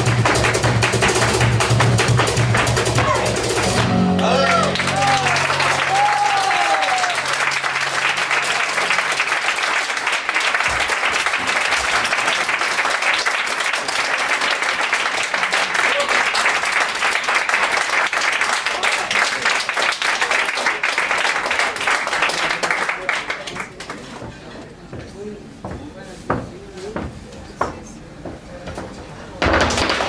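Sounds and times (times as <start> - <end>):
audience applauding: 0.0 - 24.2.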